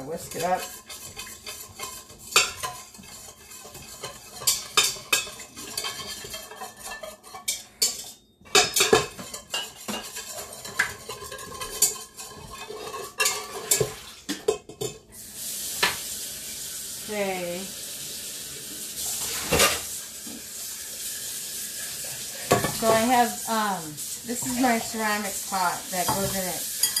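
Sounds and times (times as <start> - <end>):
whisk clinking and scraping a pot: 0.0 - 15.1, 18.9 - 27.0.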